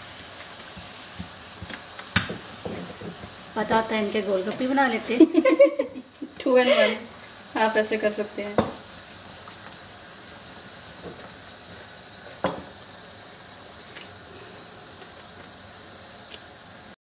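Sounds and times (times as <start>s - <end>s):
dough sizzling in hot oil: 0.0s - 17.0s.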